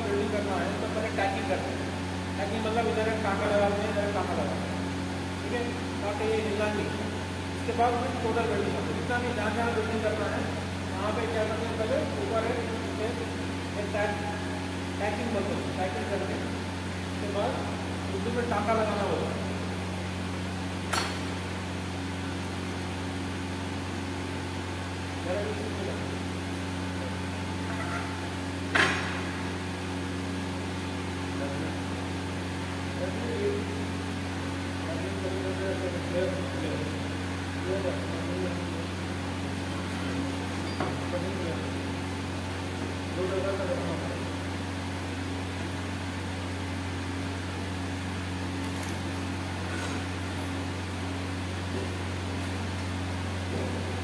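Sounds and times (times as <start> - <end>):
electrical hum: 0.0 - 54.0
fan whirring: 0.0 - 54.0.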